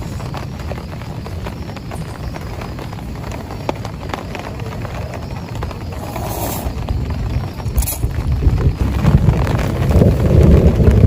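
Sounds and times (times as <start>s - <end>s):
rain drops hitting a tent: 0.0s - 11.0s
rain hiss: 0.0s - 11.0s.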